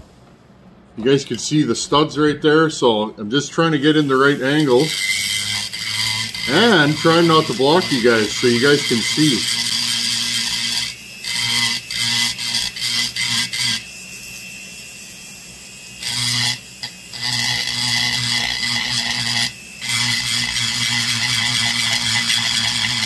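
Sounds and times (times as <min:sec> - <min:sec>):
rotary tool grinding: 0:03.8 - 0:23.0.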